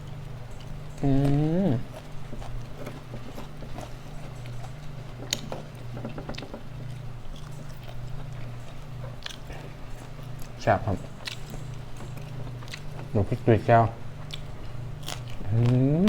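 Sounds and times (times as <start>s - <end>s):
person chewing: 0.0s - 13.2s, 14.1s - 16.0s
steady low hum: 0.0s - 16.0s.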